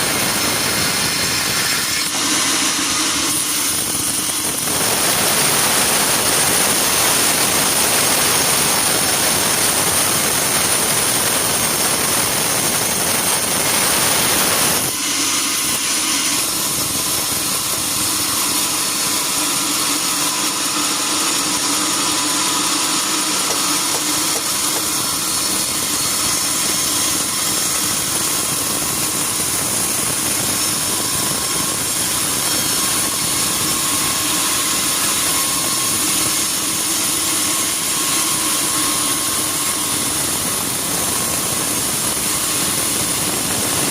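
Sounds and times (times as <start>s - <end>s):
sawmill saw cutting log: 0.0s - 43.9s.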